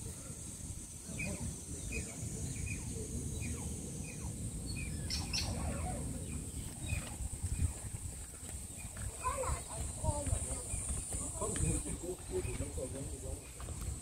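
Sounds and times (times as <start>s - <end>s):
otters chirping: 0.7s - 7.9s, 8.6s - 13.6s.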